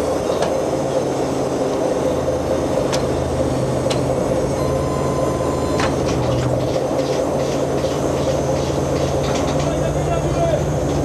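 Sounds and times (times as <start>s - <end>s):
diesel engines and crane droning: 0.0s - 11.0s.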